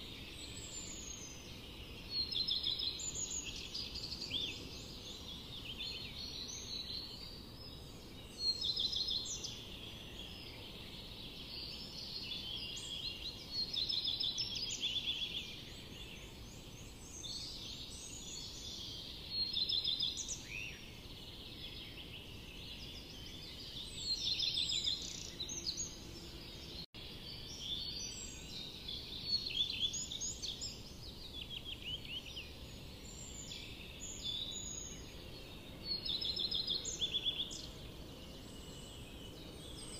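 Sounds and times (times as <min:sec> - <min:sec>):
low background noise: 0:00.0 - 0:39.9
small birds chirping: 0:00.0 - 0:39.9.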